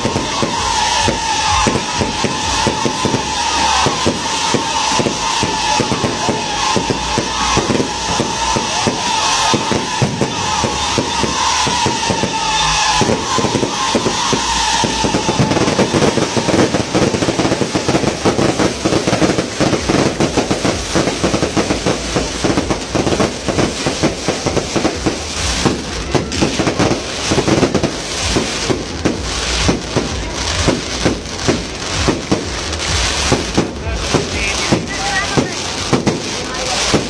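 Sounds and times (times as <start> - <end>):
falling firework whistle: 0.0 - 37.0
fireworks crackling and popping: 0.0 - 37.0.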